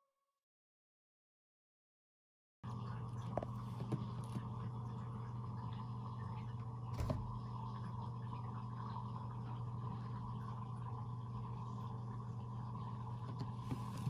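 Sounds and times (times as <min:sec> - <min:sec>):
low room hum: 0:02.6 - 0:14.0.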